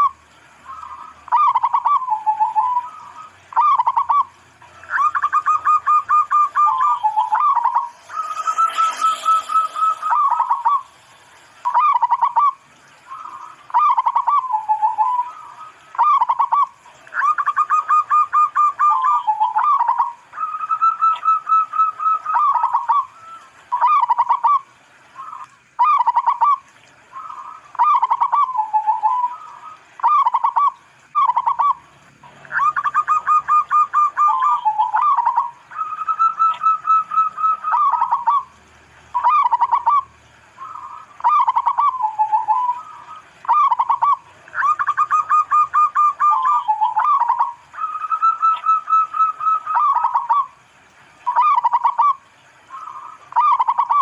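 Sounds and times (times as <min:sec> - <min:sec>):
dove cooing: 0:00.0 - 0:50.6, 0:51.2 - 0:54.0.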